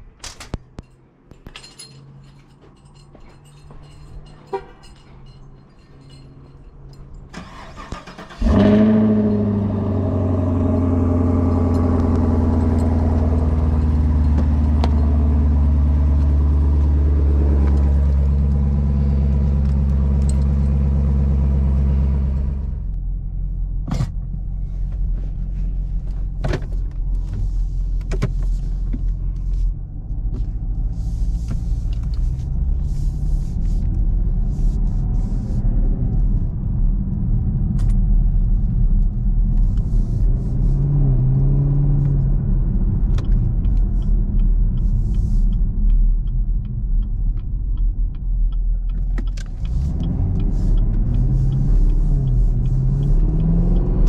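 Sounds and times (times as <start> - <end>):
car engine rumbling: 0.0 - 54.0.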